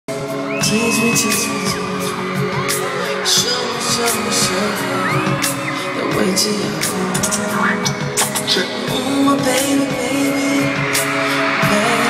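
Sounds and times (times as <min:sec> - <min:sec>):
live pop music: 0:00.1 - 0:12.0
person singing: 0:00.1 - 0:12.0
fans screaming: 0:00.2 - 0:12.0.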